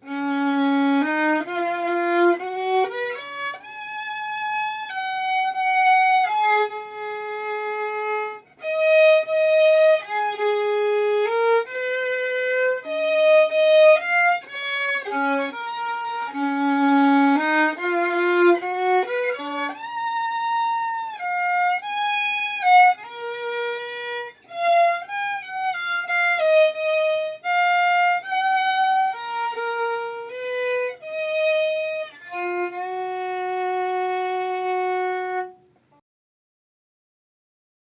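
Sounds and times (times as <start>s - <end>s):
solo violin melody: 0.0s - 36.0s.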